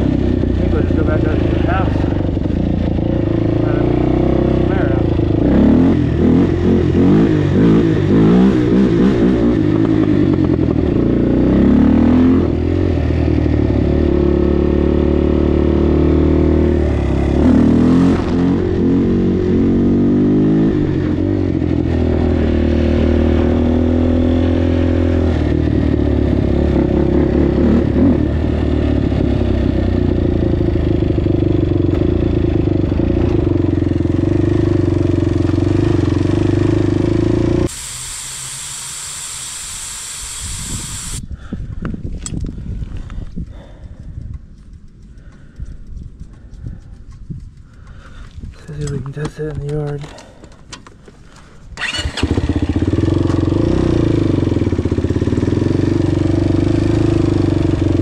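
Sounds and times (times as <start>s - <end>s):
quad bike engine revving: 0.0s - 41.2s, 51.8s - 58.0s.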